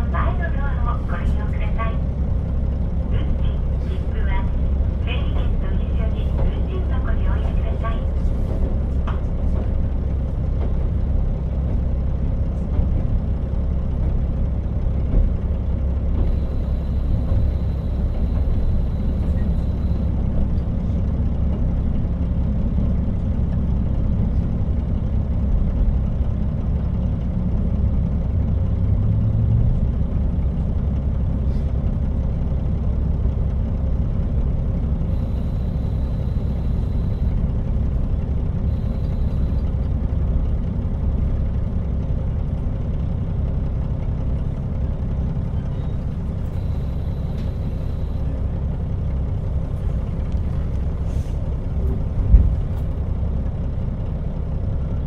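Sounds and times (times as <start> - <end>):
train wheels on rails: 0.0 - 54.7
diesel engine rumble: 0.0 - 55.0.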